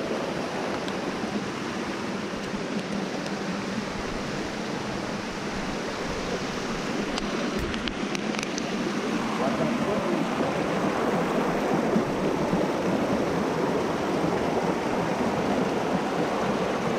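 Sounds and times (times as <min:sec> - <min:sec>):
creek rushing over rocks: 0:00.0 - 0:16.9.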